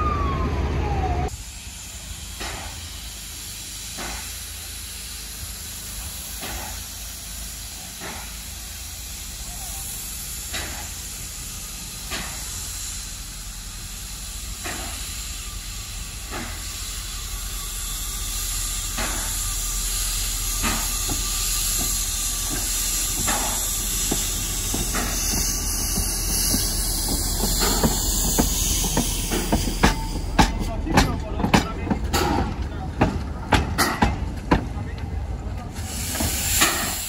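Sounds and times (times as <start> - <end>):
steam locomotive hissing: 0.8 - 37.0
steam exhaust chuffs: 1.3 - 37.0.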